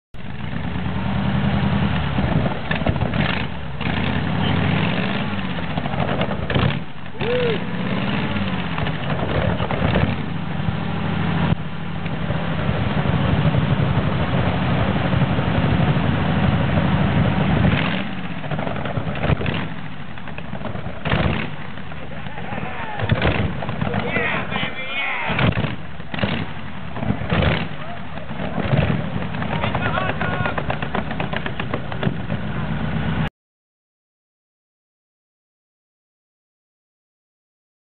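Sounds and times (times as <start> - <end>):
engine revving: 0.2 - 33.3
exhaust bangs: 0.2 - 33.3.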